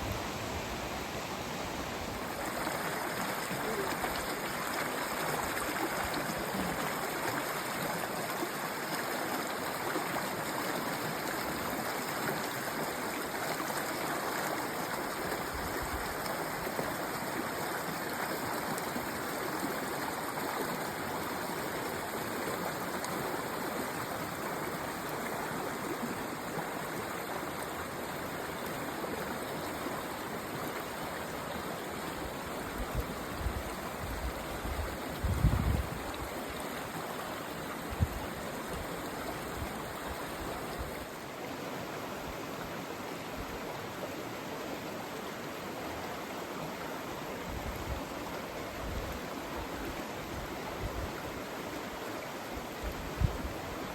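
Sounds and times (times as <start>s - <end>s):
stream water flowing: 0.0s - 53.9s.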